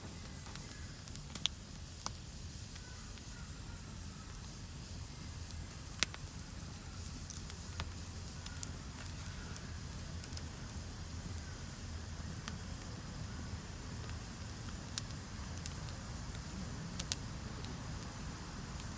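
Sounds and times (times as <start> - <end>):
campfire crackling and popping: 0.1 - 3.3, 4.4 - 18.9.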